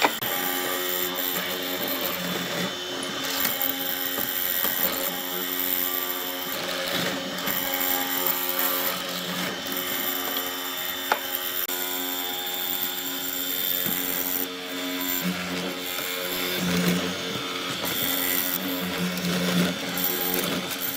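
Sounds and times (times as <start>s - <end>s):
power tool motor whine: 0.0s - 20.9s.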